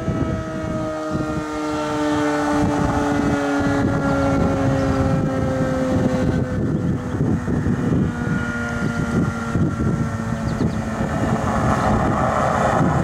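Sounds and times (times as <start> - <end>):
dual-tone warning siren: 0.0 - 13.0
wind buffeting microphone: 0.0 - 13.0.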